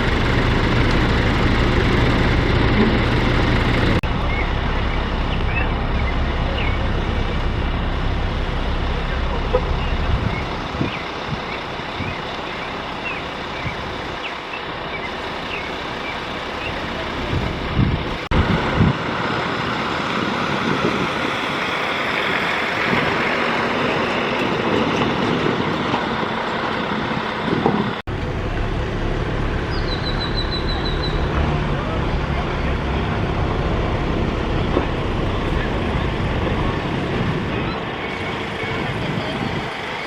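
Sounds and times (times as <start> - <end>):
tractor engines running: 0.0 - 40.0.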